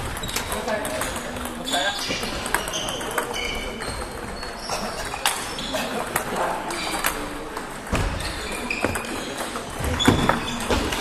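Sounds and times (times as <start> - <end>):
murmur of voices: 0.0 - 11.0.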